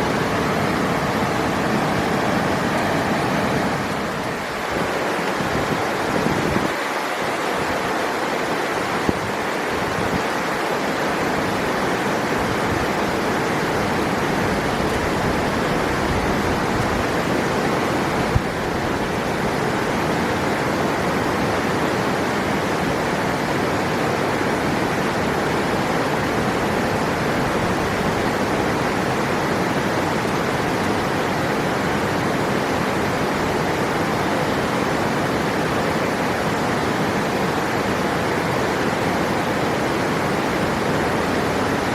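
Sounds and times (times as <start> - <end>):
river water rushing: 0.0 - 41.9.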